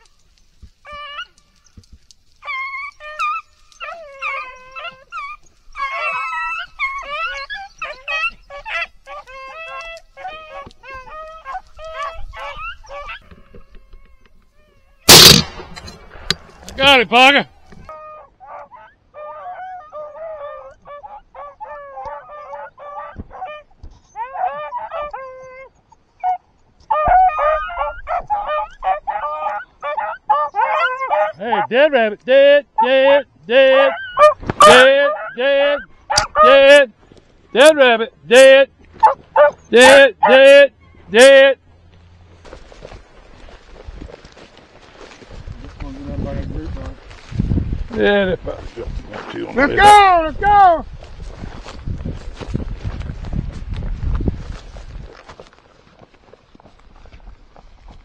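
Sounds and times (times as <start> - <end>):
hounds baying: 0.0 - 14.3, 15.1 - 41.5, 42.4 - 50.9.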